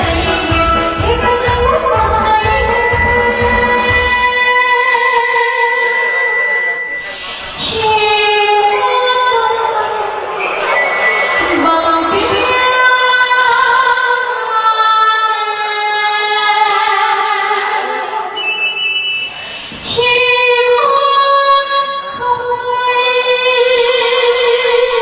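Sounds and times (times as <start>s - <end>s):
woman singing into a microphone: 0.0s - 6.7s, 7.6s - 10.2s, 11.4s - 18.4s, 19.8s - 25.0s.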